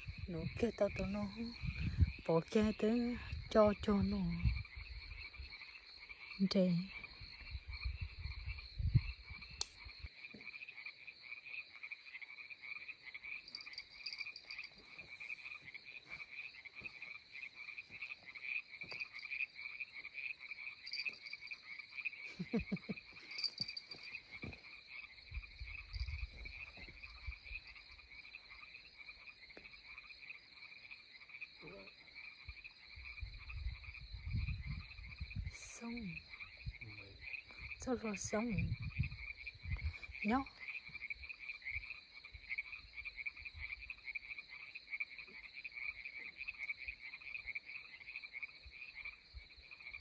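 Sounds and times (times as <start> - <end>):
frogs calling: 0.0 - 50.0.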